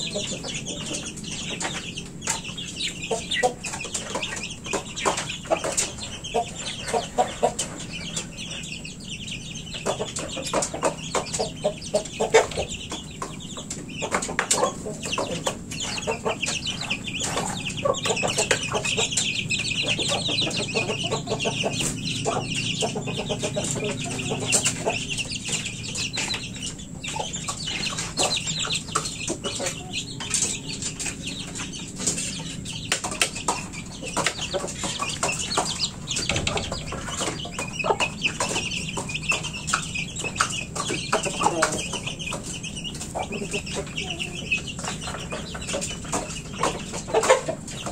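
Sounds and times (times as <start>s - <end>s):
chickens clucking: 0.0s - 47.9s
chicks peeping: 0.0s - 47.9s.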